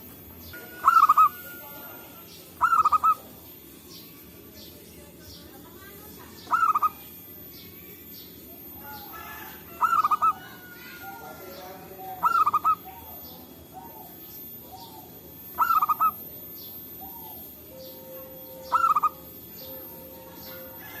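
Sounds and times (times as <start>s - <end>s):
dove cooing: 0.0s - 3.6s, 6.3s - 7.3s, 8.5s - 21.0s
faint bird chirps: 0.4s - 21.0s.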